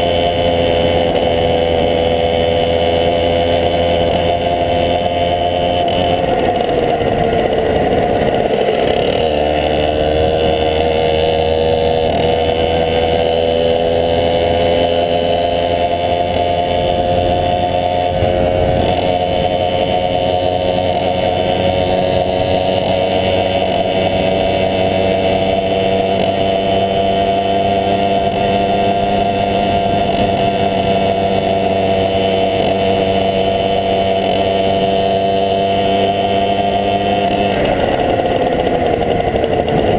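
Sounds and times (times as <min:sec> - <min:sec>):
moped two-stroke engine running: 0:00.0 - 0:39.9.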